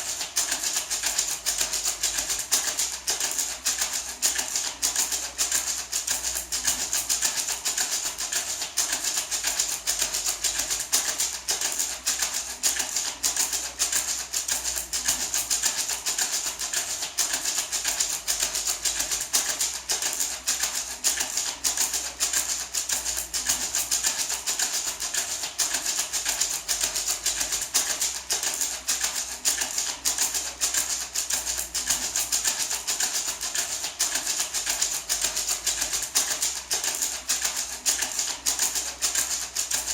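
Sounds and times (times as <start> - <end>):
maraca shaken rhythmically: 0.0 - 39.9.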